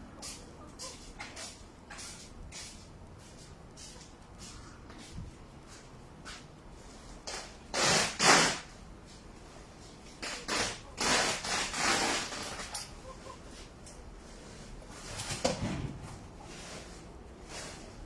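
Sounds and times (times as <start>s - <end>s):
handling scrapes and rustles: 0.2s - 18.0s.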